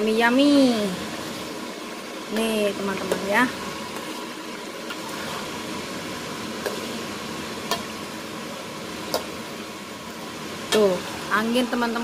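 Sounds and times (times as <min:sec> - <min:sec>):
sauce simmering in a wok: 0:00.0 - 0:12.0.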